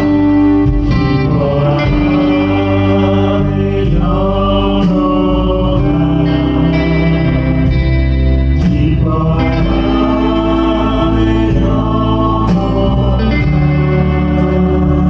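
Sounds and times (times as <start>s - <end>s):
guitar chords: 0.0s - 15.0s
people singing: 0.0s - 15.0s.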